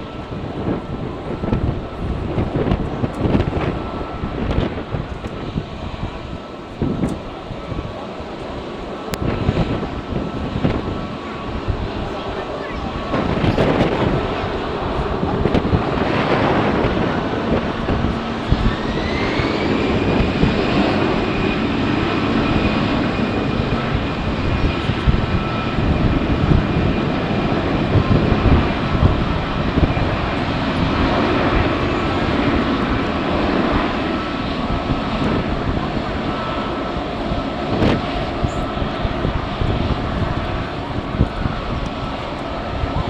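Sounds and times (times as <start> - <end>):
jet engine rumble: 0.0 - 43.0
jet engine whine: 0.0 - 43.0
wind buffeting microphone: 0.0 - 43.0.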